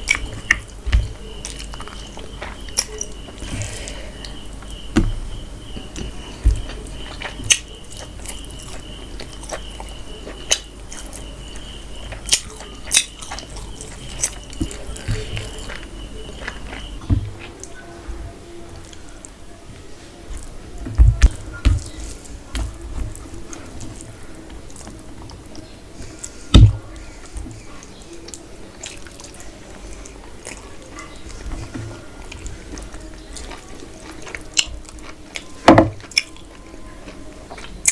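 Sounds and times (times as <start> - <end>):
chewing food: 0.0 - 37.9.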